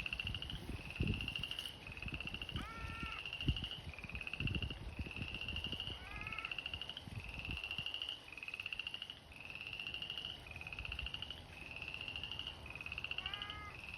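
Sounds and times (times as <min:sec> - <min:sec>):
frogs calling with trills: 0:00.0 - 0:13.9.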